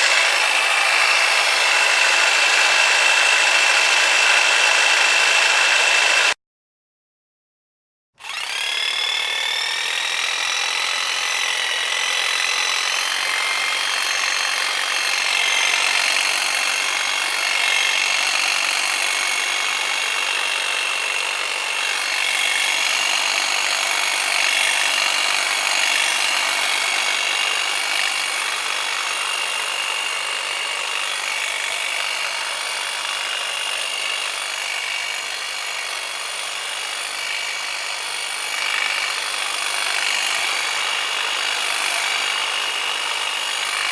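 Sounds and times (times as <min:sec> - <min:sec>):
hedge trimmer running: 0:00.0 - 0:06.4, 0:08.2 - 0:43.9.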